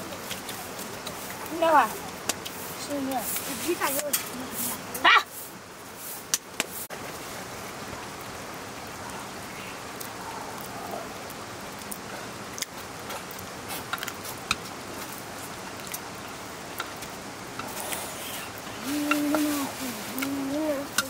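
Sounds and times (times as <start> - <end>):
rain-like hiss: 0.0 - 21.0.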